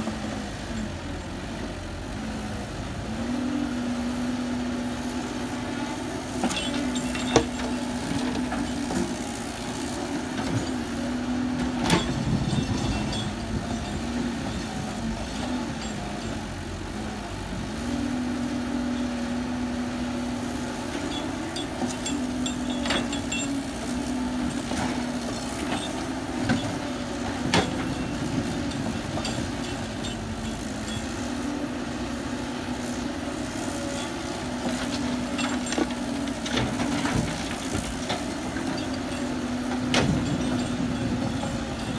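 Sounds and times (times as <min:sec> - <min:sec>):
heavy machine engine running: 0:00.0 - 0:41.9.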